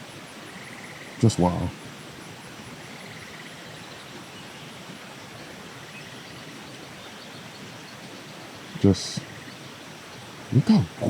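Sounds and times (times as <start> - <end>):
background hiss: 0.0 - 11.0
faint insect trill: 0.0 - 11.0.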